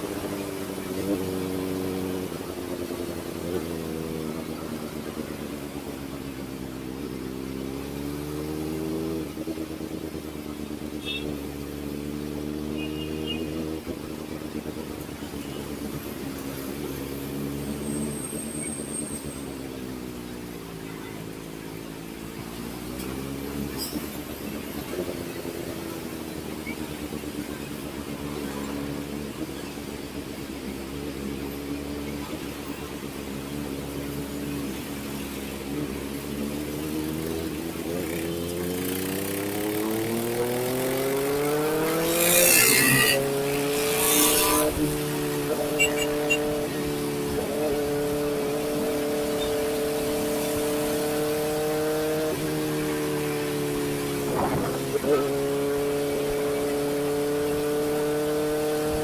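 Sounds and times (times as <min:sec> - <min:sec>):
motorcycle engine while riding: 0:00.0 - 0:59.0.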